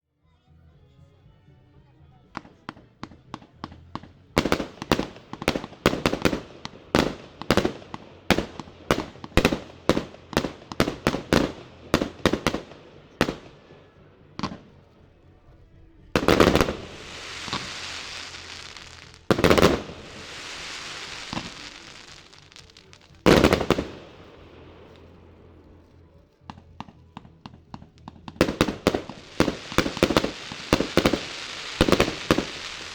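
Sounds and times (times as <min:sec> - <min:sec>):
loud firework bursts: 0:02.4 - 0:14.9, 0:16.1 - 0:32.9
firework crackling: 0:02.4 - 0:32.9
firework shots firing: 0:02.4 - 0:32.9.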